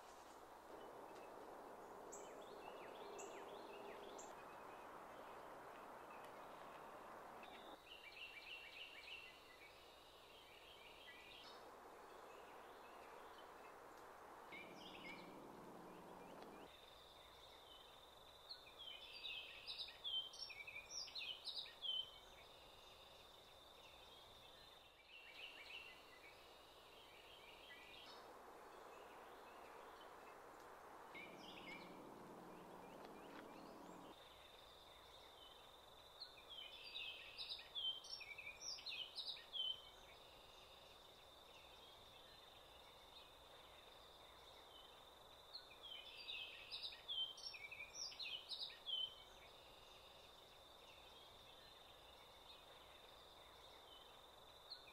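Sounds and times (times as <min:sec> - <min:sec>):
faint outdoor hush: 0:00.0 - 0:54.9
songbird chirping: 0:00.0 - 0:54.9.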